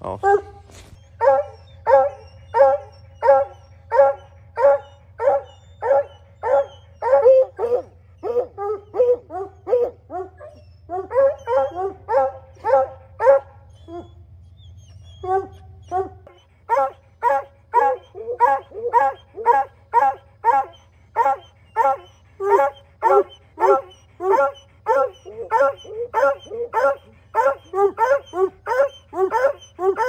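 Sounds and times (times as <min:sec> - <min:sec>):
hounds barking: 0:00.1 - 0:30.0.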